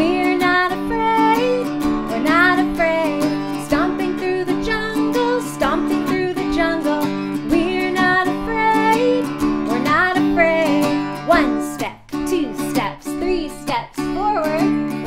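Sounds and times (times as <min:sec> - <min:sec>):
acoustic guitar strumming: 0:00.0 - 0:15.0
woman singing: 0:00.0 - 0:15.0.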